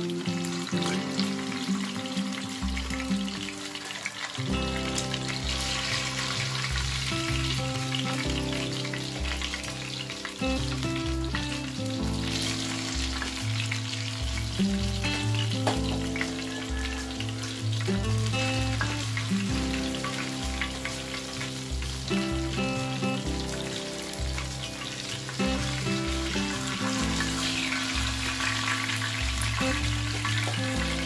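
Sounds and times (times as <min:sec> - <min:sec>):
fish sizzling in hot oil: 0:00.0 - 0:31.0
background music with bass line: 0:04.4 - 0:31.0.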